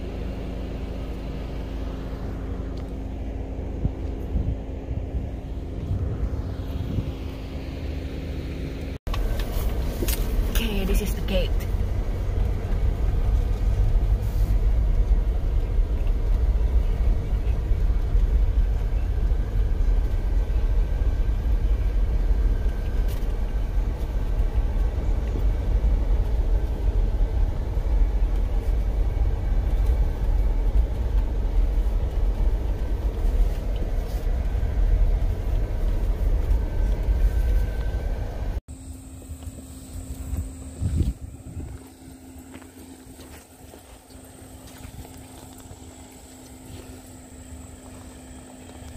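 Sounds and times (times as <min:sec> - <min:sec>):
engine and tyres rumbling on gravel: 0:00.0 - 0:48.9.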